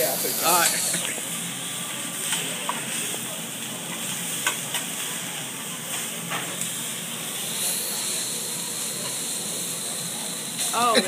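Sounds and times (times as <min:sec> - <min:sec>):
rice sizzling on griddle: 0:00.0 - 0:11.0.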